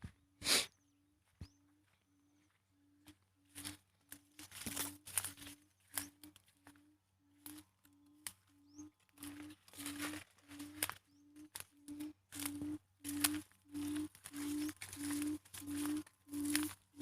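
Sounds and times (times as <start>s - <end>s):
bird low hooting call: 0.7s - 17.0s
rustling in dry vegetation: 1.8s - 17.0s.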